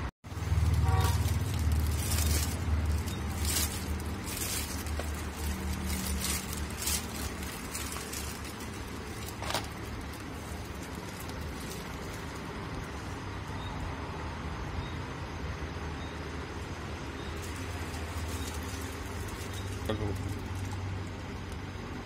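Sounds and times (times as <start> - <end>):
plastic wrapping crinkling: 0.3 - 13.4, 17.3 - 22.0.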